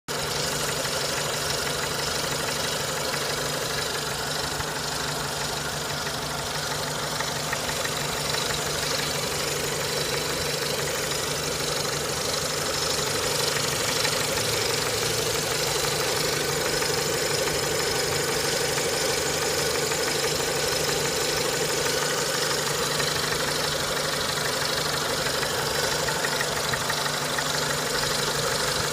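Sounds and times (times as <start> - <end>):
car engine idling: 0.1 - 28.9
engine knocking: 0.1 - 28.9.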